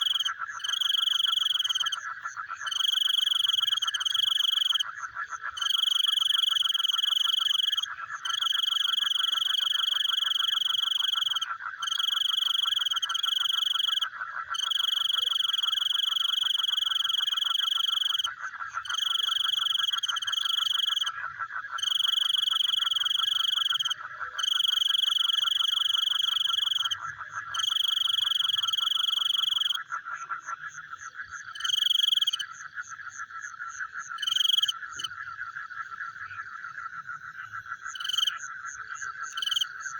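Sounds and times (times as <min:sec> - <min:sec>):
frogs pulsing trill: 0:00.0 - 0:39.9
high-pitched frog call: 0:00.0 - 0:39.9.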